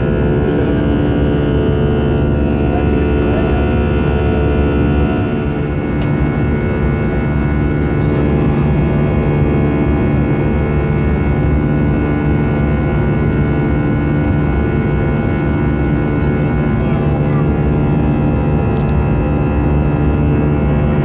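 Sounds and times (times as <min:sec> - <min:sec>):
jet engine cabin drone: 0:00.0 - 0:21.0.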